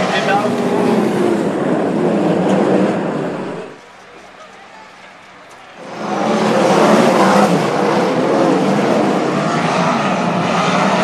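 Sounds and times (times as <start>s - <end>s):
race car engines at full throttle: 0.0s - 11.0s.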